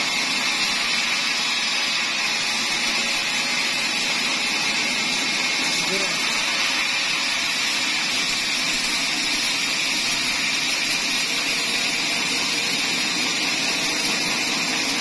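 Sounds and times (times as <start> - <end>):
band saw cutting log: 0.0 - 15.0.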